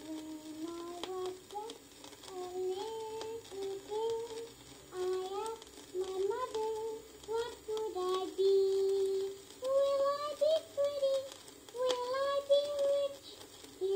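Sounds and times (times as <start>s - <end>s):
child singing: 0.0s - 13.9s
vinyl surface clicks and hiss: 0.0s - 13.9s.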